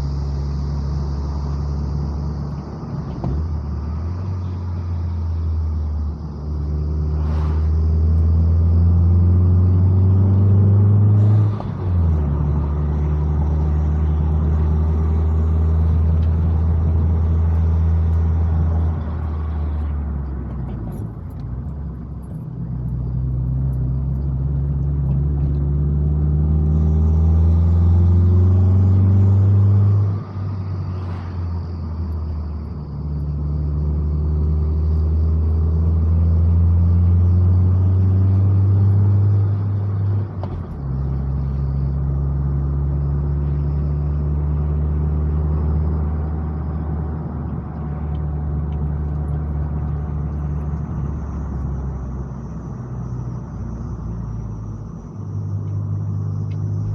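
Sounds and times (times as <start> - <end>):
car engine accelerating uphill: 0.0 - 56.9.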